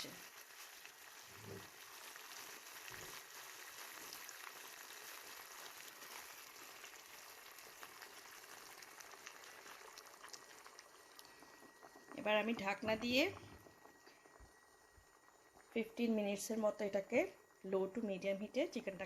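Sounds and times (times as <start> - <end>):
food simmering and sizzling in pan: 0.0 - 19.0.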